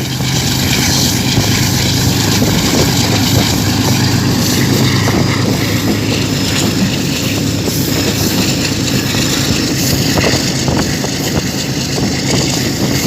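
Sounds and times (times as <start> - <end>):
low diesel engine drone: 0.0 - 13.0
train running noise: 0.0 - 13.0.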